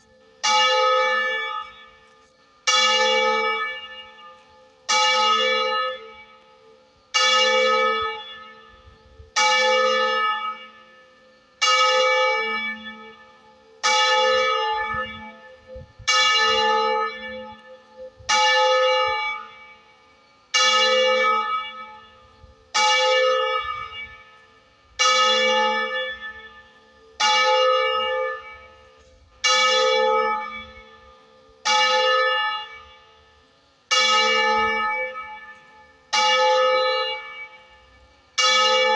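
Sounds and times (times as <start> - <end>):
church bell tolling: 0.0 - 38.9.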